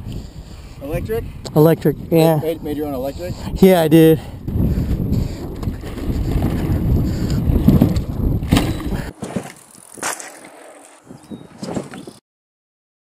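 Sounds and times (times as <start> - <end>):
wind buffeting camera: 0.0 - 12.2.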